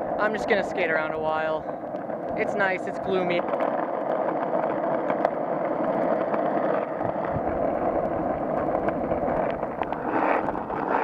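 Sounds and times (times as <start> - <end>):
skateboard wheels rolling on asphalt: 0.0 - 11.0
small ticks under wheels: 1.6 - 11.0.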